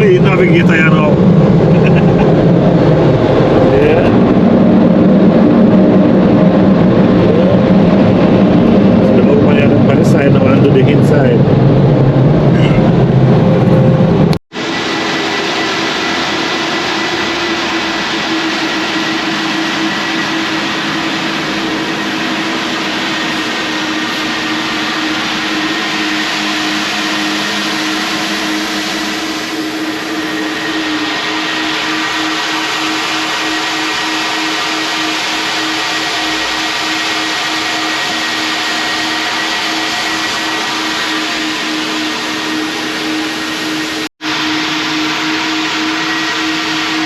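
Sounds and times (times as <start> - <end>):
vacuum cleaner running: 0.0 - 47.0.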